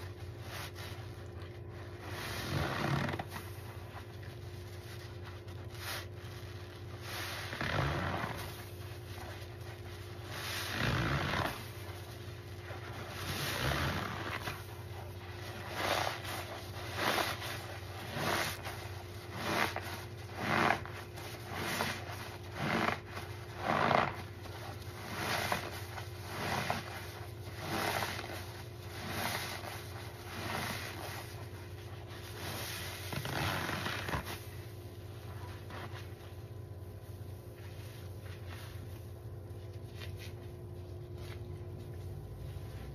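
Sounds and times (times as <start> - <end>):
wet sponge squelches: 0.0 - 42.9.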